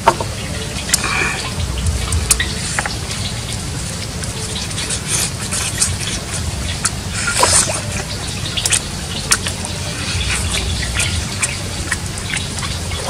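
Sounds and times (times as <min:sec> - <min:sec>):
steady low rumble: 0:00.0 - 0:13.0
wet chewing and mouth smacks: 0:00.9 - 0:13.0.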